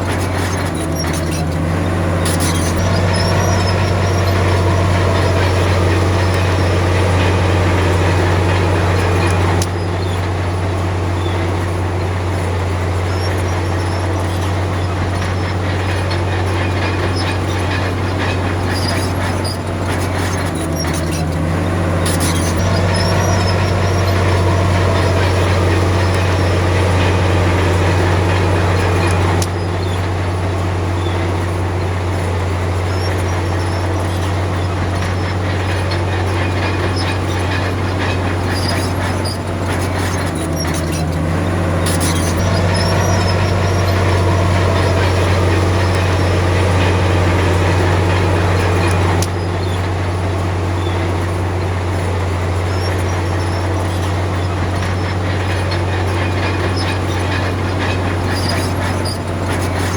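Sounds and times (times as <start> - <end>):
bulldozer diesel engine droning: 0.0 - 59.9
squeaks and clicks: 0.0 - 59.9
steel tracks clanking and squealing: 0.0 - 59.9.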